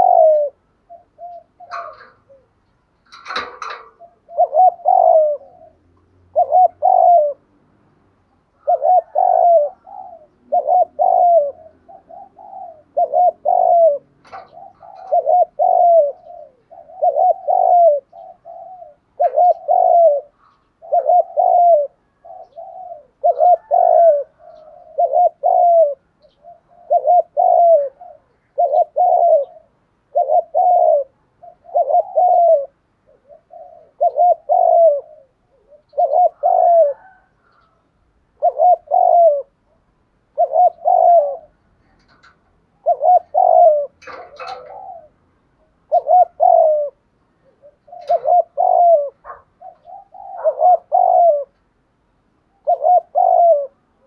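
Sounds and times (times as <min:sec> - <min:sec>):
dove cooing: 0:00.0 - 0:07.6, 0:08.4 - 0:54.0.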